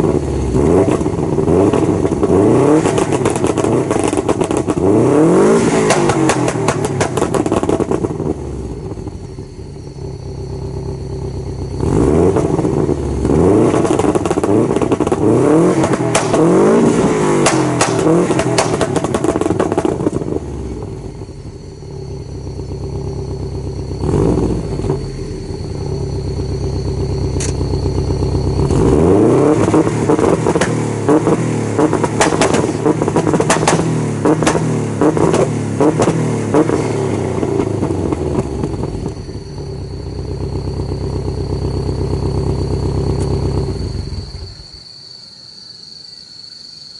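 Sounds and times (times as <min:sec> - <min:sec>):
car engine revving: 0:00.0 - 0:44.6
exhaust popping and crackling: 0:00.0 - 0:44.6
car engine idling: 0:00.0 - 0:44.8.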